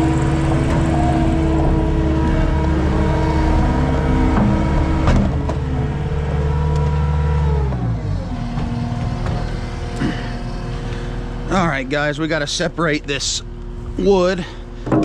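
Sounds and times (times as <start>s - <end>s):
skid steer engine winding down: 0.0s - 15.0s.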